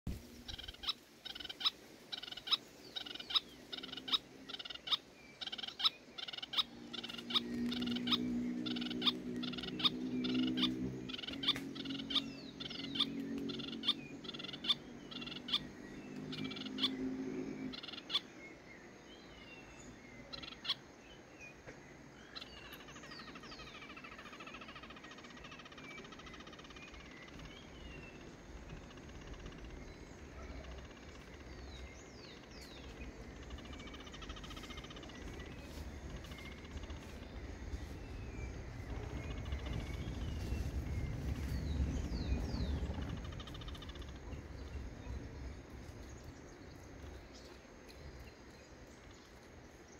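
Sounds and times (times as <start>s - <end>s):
faint gliding bird chirps: 0.1s - 49.9s.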